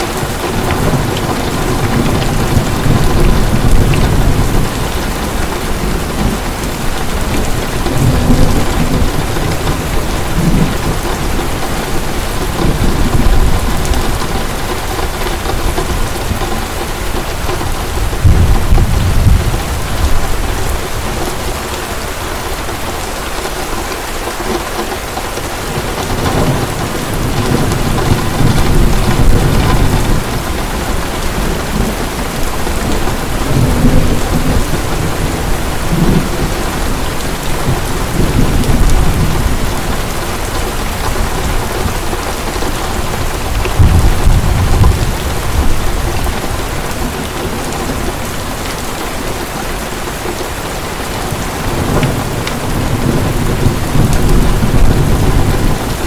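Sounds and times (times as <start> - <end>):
thunder rumbling: 0.0 - 23.1, 25.3 - 56.0
heavy rain falling: 0.0 - 56.0.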